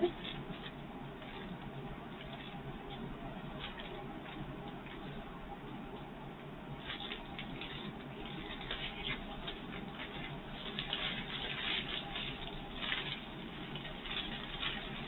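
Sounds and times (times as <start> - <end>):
plastic bags rustling: 0.0 - 5.6, 6.7 - 15.0.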